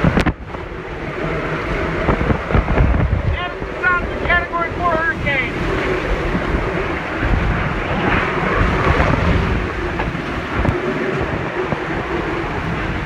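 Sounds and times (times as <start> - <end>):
strong wind and rain: 0.0 - 13.0
wind buffeting microphone: 0.0 - 13.0.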